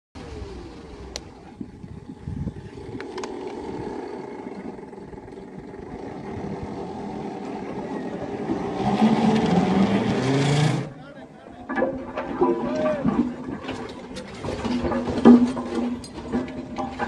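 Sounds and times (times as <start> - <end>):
heavy machine engine running: 0.2 - 17.0.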